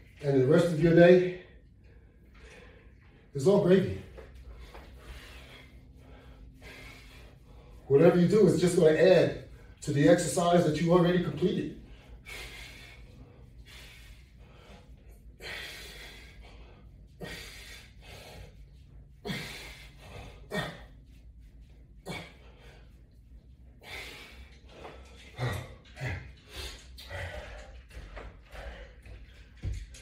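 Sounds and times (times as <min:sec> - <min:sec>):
man breathing hard: 0:01.2 - 0:09.8, 0:11.4 - 0:30.0.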